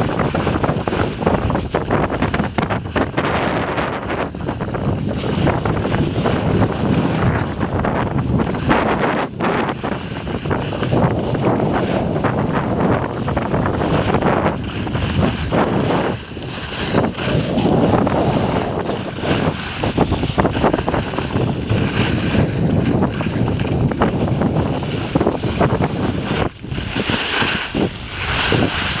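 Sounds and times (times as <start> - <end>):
skis carving on packed snow: 0.0 - 29.0
wind buffeting microphone: 0.0 - 29.0.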